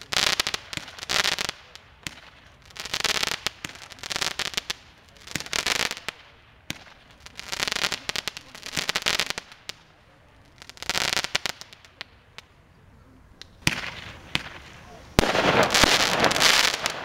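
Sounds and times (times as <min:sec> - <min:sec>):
fireworks sharp cracks: 0:00.0 - 0:12.6, 0:13.4 - 0:17.0
fireworks crackling bursts: 0:00.0 - 0:17.0.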